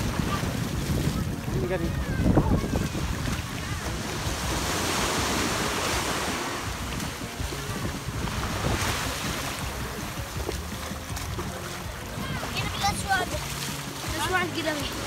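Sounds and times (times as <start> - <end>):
small waves breaking on sand: 0.0 - 15.0
wind rumbling on microphone: 0.0 - 15.0.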